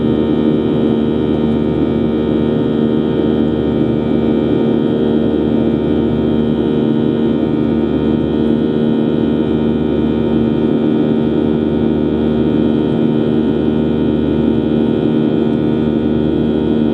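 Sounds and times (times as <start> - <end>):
airplane cabin engine rush: 0.0 - 16.9
constant low hum: 0.0 - 16.9.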